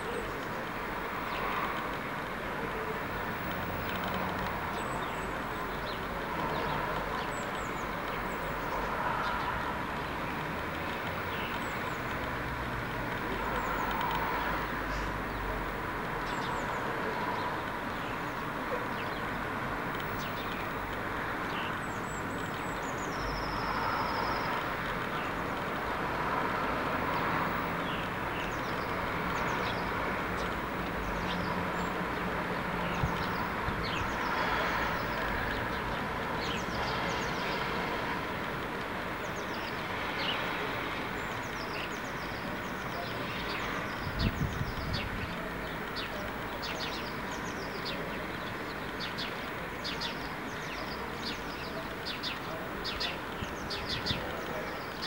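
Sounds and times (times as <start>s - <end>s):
distant traffic rumble: 0.0s - 55.0s
small birds chirping: 0.0s - 55.0s.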